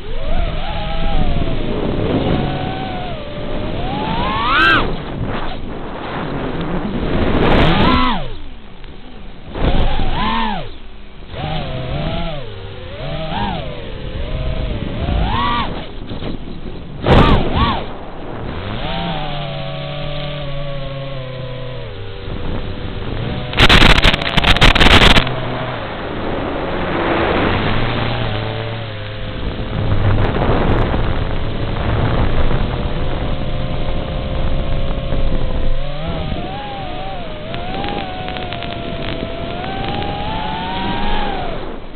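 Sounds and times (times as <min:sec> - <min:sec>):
drone propellers whining: 0:00.0 - 0:41.9
loud bursts of noise: 0:00.0 - 0:41.9.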